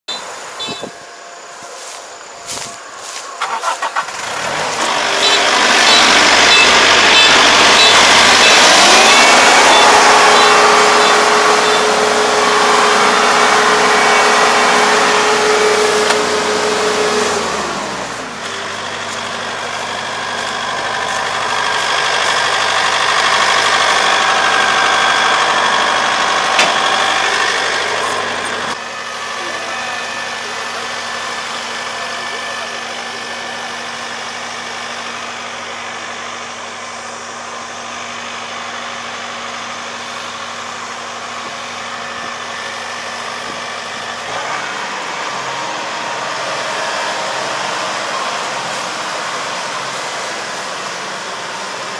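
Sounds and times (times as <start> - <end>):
combine harvester engine drone: 0.1 - 51.9.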